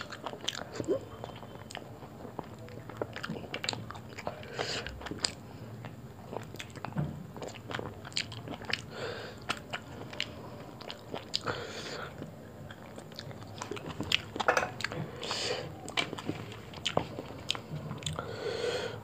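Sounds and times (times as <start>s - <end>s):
chewing and lip-smacking: 0.0s - 18.3s.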